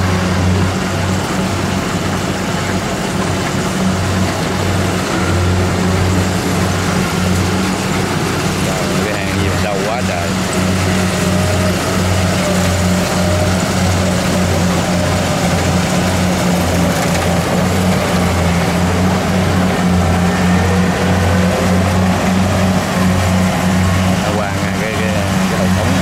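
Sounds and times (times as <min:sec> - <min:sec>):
combine harvester engine humming: 0:00.0 - 0:26.0
machine clatter: 0:00.0 - 0:26.0.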